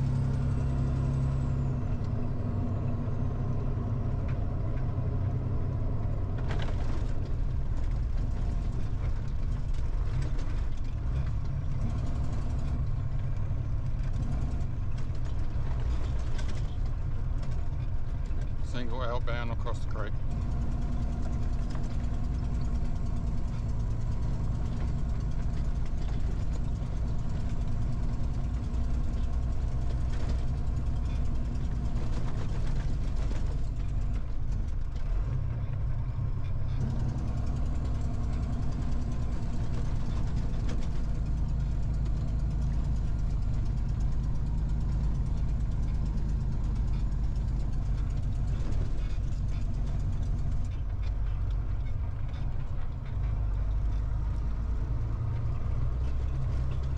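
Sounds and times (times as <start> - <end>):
truck diesel engine running: 0.0 - 56.9.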